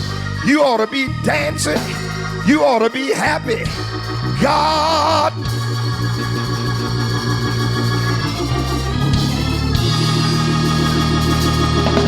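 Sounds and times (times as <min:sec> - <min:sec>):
church organ playing chords: 0:00.0 - 0:12.0.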